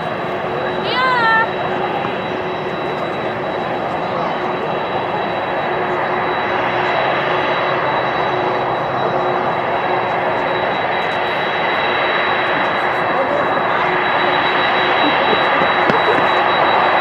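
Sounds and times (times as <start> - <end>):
jet engines with high whine: 0.0 - 17.0.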